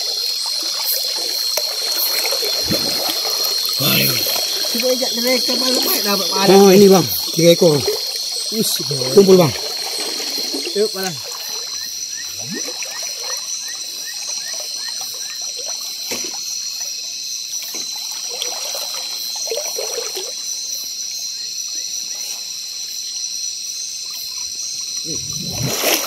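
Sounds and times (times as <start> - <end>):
water trickling and splashing: 0.0 - 21.3, 23.8 - 26.0.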